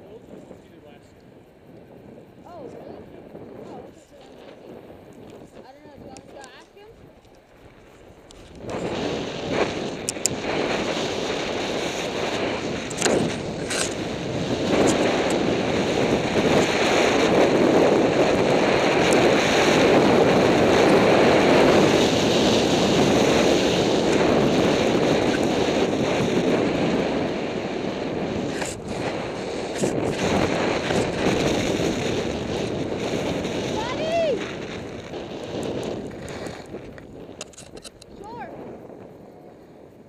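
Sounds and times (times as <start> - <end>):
wind rushing over microphone: 0.0 - 40.0
skis scraping on snow: 5.5 - 39.9.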